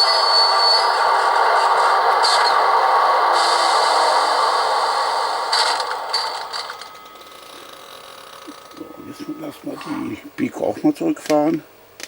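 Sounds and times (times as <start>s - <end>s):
electric locomotive running sound: 0.0s - 10.3s.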